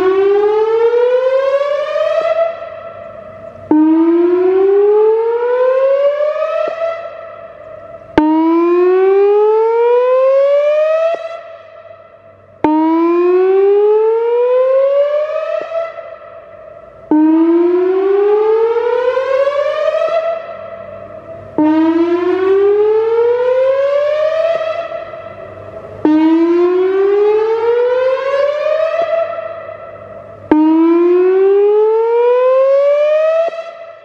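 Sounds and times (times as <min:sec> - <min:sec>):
tornado siren whooping: 0:00.0 - 0:34.0.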